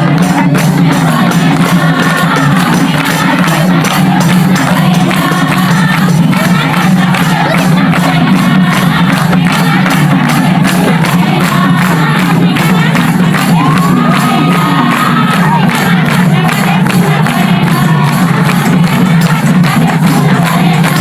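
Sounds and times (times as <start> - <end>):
crowd cheering and shouting: 0.0 - 21.0
loud dance music: 0.0 - 21.0.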